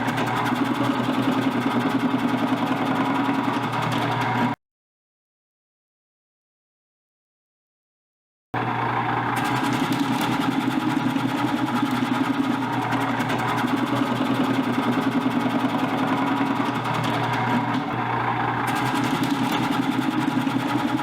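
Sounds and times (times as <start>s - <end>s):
electric slicer motor chattering: 0.0s - 4.6s, 8.6s - 21.0s.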